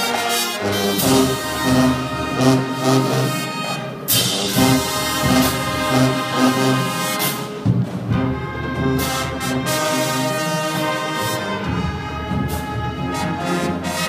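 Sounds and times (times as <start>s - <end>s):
brass sustained chords: 0.0s - 14.0s.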